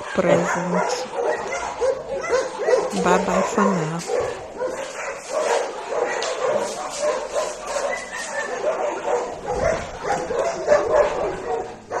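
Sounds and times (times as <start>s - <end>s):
dogs whining and yipping: 0.0s - 12.0s.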